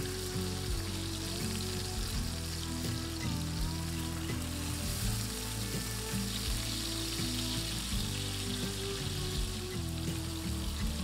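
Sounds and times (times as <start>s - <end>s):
background music: 0.0s - 11.0s
fish sizzling in a pan: 0.0s - 11.0s.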